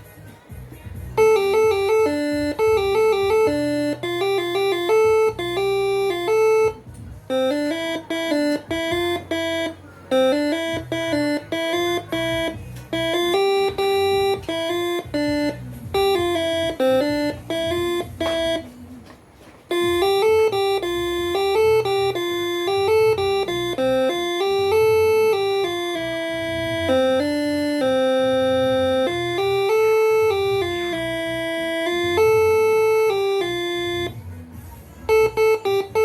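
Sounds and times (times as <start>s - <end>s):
air horn playing melody: 1.2s - 18.7s, 19.7s - 34.2s, 35.1s - 36.0s.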